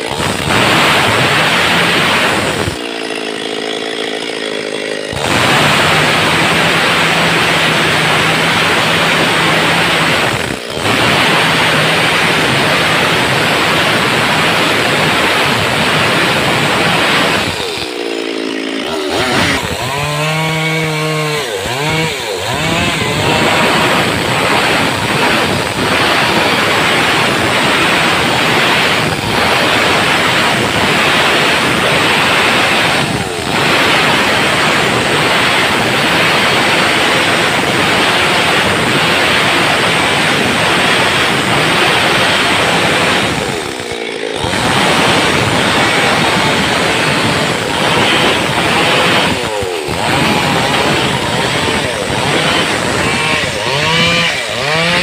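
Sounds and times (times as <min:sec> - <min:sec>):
chainsaw cutting timber: 0:00.0 - 0:55.0.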